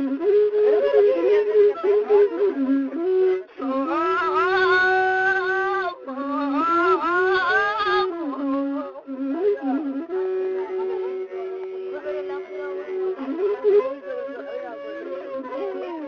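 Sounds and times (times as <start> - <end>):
bowed single-string fiddle: 0.0 - 16.0.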